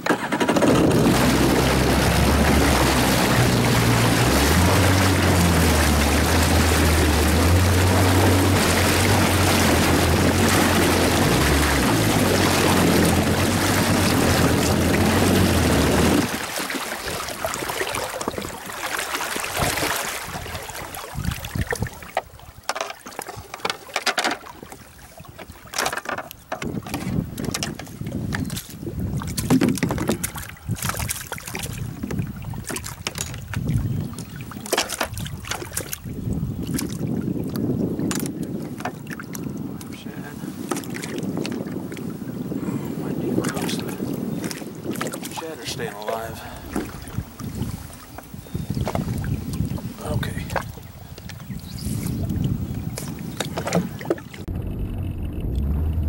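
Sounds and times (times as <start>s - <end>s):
jet ski engine running: 0.0s - 21.3s, 31.6s - 56.0s
wind on microphone: 0.6s - 18.8s, 19.4s - 22.7s, 26.4s - 56.0s.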